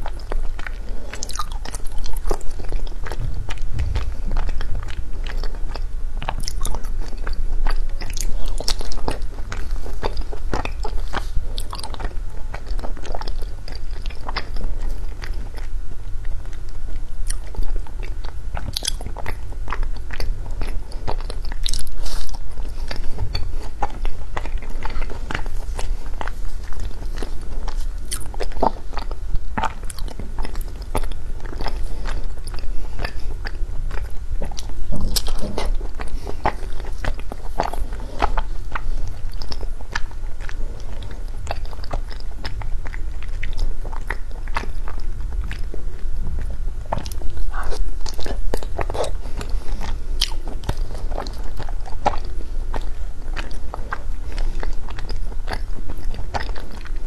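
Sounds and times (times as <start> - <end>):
ice being chewed and crunched: 0.0 - 15.8, 16.4 - 57.0.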